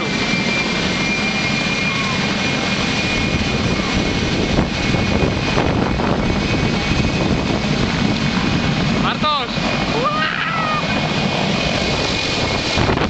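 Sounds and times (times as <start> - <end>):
helicopter rotor and exhaust noise: 0.0 - 13.0
helicopter turbine whine: 0.0 - 13.0.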